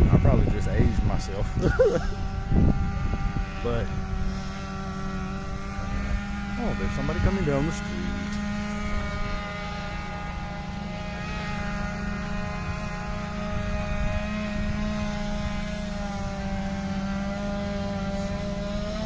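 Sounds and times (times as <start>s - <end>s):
motor drone with hum: 0.0s - 19.0s.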